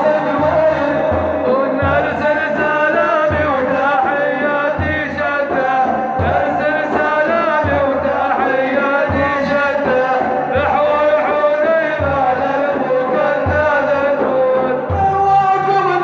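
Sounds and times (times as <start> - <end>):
low beat: 0.0 - 14.2
man chanting melismatic song: 0.0 - 16.0.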